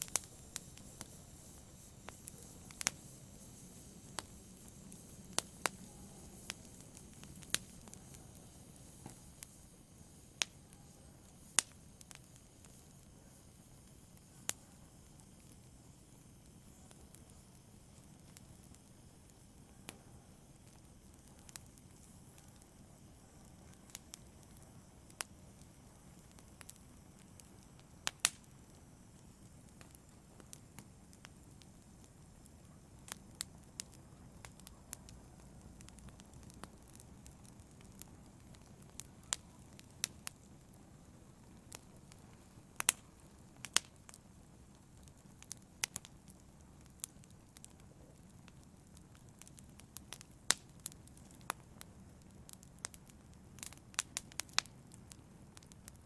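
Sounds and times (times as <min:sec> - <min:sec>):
fire crackles and pops: 0:00.0 - 0:56.0
flame hissing: 0:00.0 - 0:56.0.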